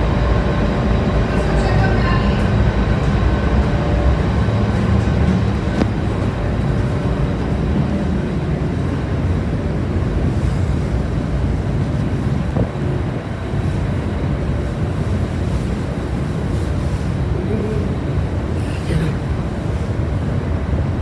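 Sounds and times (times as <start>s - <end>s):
ferry engines rumbling: 0.0s - 21.0s
rushing wind-like noise: 0.0s - 21.0s.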